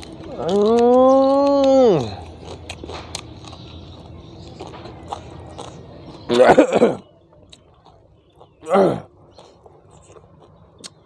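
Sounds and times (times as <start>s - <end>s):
man chewing crisp food: 0.0s - 11.0s.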